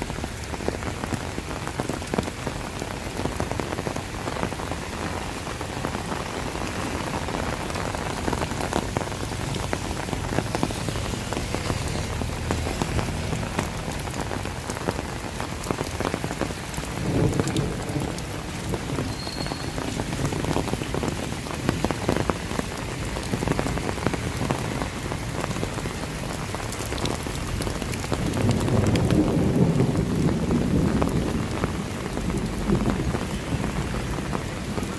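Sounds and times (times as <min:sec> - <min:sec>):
close raindrop hits: 0:00.0 - 0:34.9
rain falling: 0:00.0 - 0:34.9.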